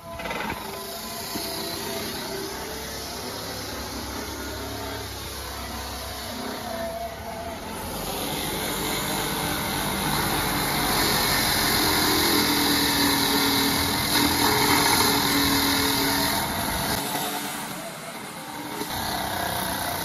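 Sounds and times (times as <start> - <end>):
rotary power tool polishing metal: 0.0 - 20.0.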